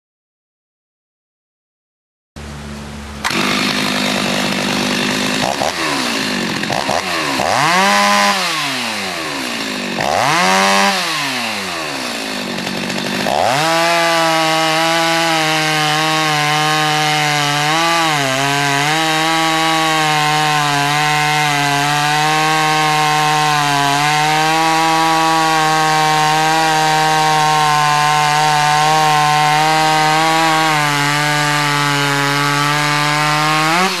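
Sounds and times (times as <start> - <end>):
chainsaw revving and cutting log: 2.5 - 34.0.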